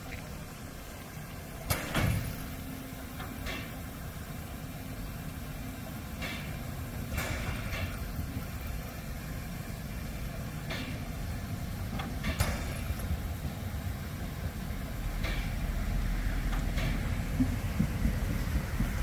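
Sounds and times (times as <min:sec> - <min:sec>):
steam locomotive low rumble: 0:00.0 - 0:19.0.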